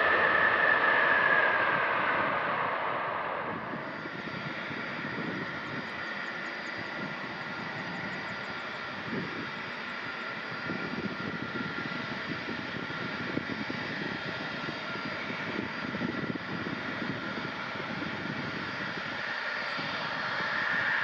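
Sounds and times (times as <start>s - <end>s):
high engine whine: 0.0s - 21.0s
jet engines running: 0.0s - 21.0s.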